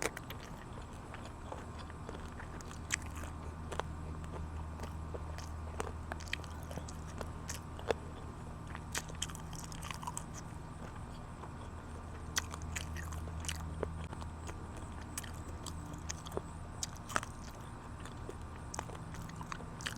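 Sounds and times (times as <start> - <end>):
chewing chicken wings crunching: 0.0 - 19.9
steady low hum: 0.0 - 19.9.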